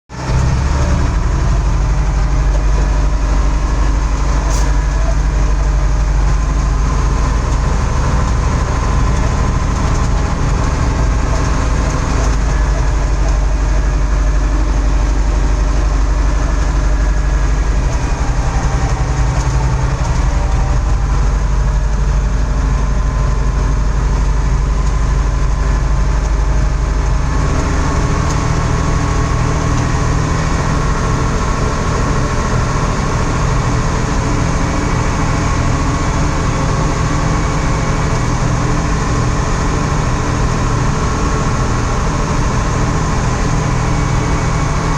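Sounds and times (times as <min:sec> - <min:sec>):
diesel engine rumbling: 0:00.1 - 0:44.9.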